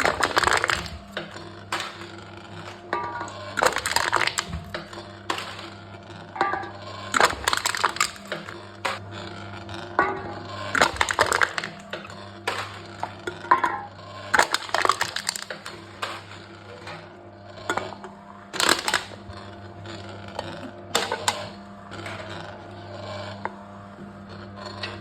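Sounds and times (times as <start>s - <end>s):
machine crushing cans: 0.0s - 25.0s.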